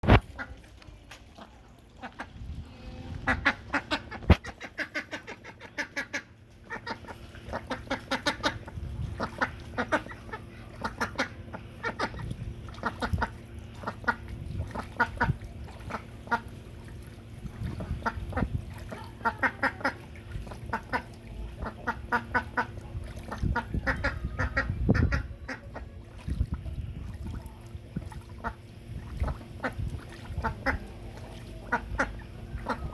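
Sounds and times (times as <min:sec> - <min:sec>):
duck quacking: 0:01.4 - 0:16.6, 0:17.7 - 0:26.1, 0:28.1 - 0:32.9.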